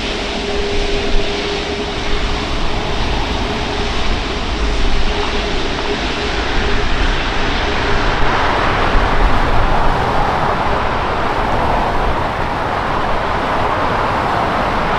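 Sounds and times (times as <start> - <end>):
jet engines at taxi power: 0.0 - 14.9
faint hum: 0.3 - 14.9.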